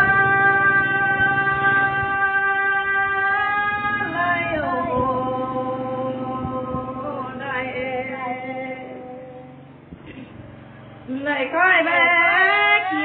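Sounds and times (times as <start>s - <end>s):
women singing unaccompanied: 0.0s - 9.7s, 11.0s - 13.0s.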